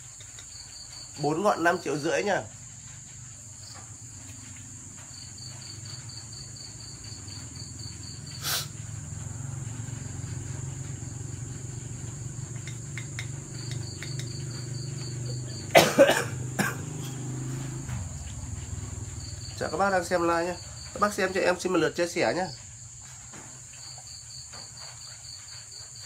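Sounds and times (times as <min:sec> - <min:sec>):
night insects chirring: 0:00.0 - 0:26.0.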